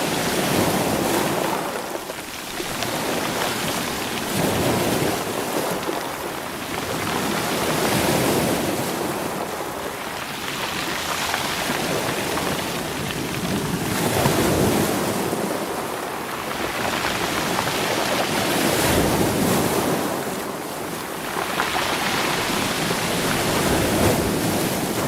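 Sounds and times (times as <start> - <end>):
waves rolling over rocky shore: 0.0 - 25.0.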